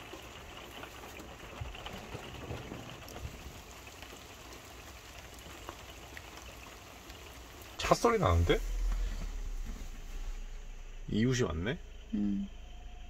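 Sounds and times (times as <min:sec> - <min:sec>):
raindrop ticks: 0:00.0 - 0:12.0
light rain hissing: 0:00.0 - 0:13.0.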